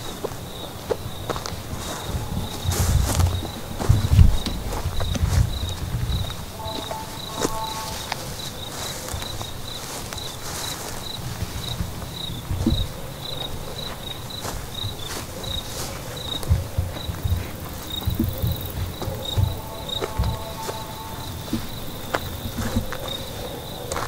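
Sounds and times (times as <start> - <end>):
cricket chirping: 0.0 - 24.0
footsteps through grass: 0.0 - 24.0.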